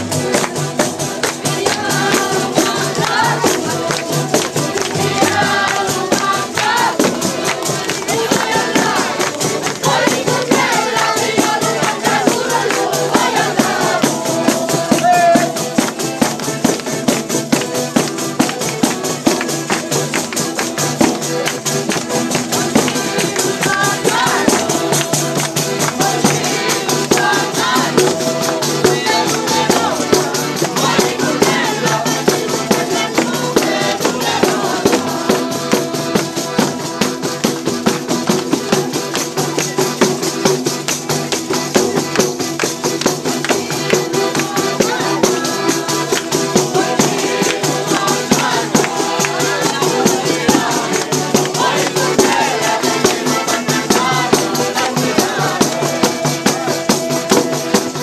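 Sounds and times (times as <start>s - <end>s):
tambourine beat: 0.0s - 58.0s
voices singing: 0.0s - 58.0s.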